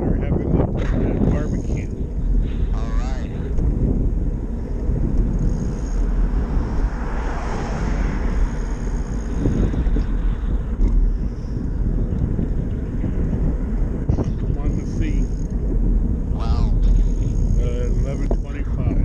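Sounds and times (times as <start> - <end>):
traffic noise: 0.0 - 19.0
wind buffeting microphone: 0.0 - 19.0.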